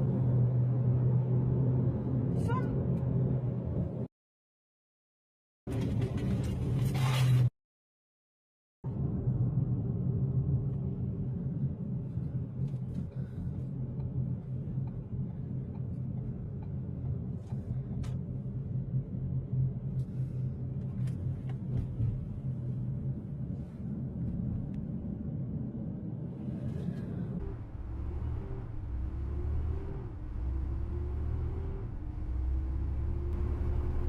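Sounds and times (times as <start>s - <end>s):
car engine rumble and road noise: 0.0s - 4.1s, 8.9s - 34.0s.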